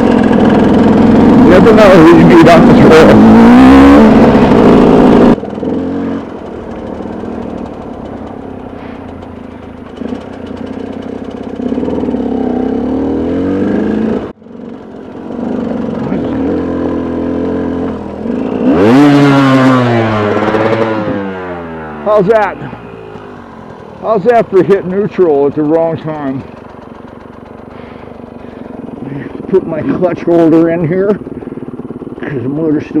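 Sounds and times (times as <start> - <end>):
motorcycle engine revving: 0.0 - 33.0
motorcycle engine running: 0.0 - 33.0.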